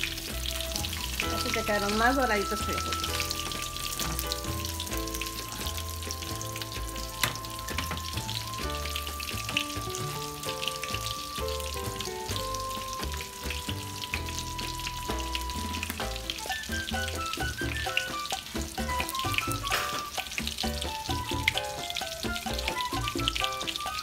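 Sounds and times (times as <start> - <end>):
background music: 0.0 - 24.0
chicken sizzling in hot oil: 0.0 - 24.0.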